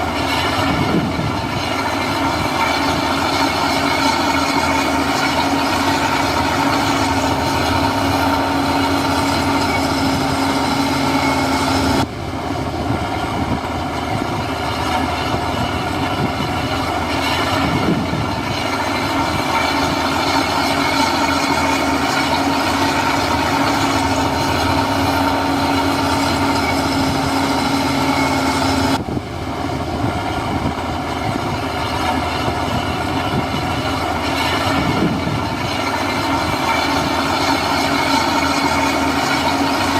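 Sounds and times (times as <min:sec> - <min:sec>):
diesel machinery engine drone: 0:00.0 - 0:39.9
steady whining tones: 0:00.0 - 0:39.9.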